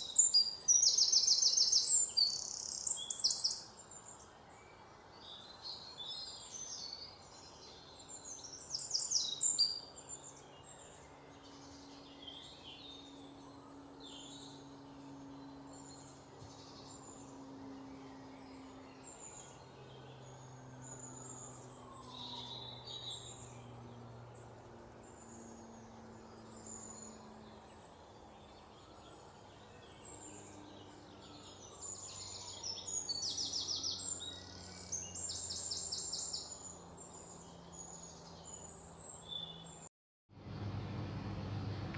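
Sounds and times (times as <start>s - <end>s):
songbirds chirping: 0.0s - 39.9s
faint low hum: 0.0s - 41.9s.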